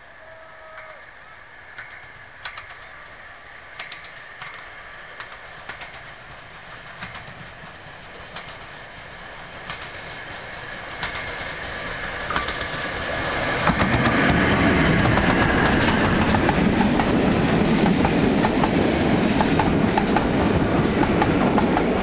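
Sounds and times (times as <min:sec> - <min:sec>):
steam locomotive approaching: 0:00.0 - 0:22.0.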